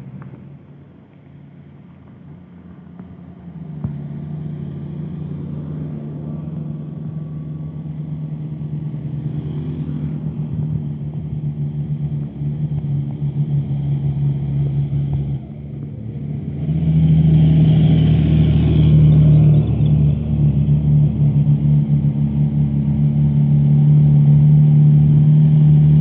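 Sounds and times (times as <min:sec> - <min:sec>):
truck diesel engine pulling uphill: 0:00.0 - 0:26.0.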